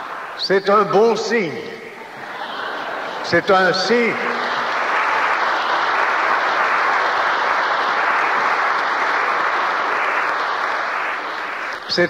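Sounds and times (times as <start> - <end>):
congregation applauding: 0.0 - 1.3, 2.1 - 12.0.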